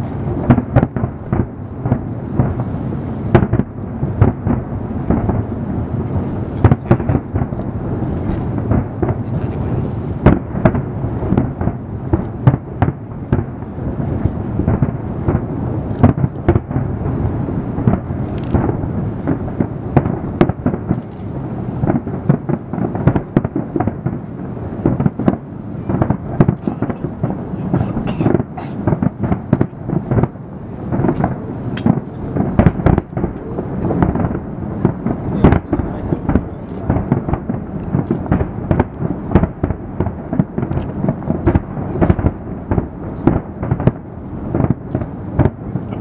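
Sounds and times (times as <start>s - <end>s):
fireworks bangs: 0.0s - 46.0s
low rumble: 0.0s - 46.0s.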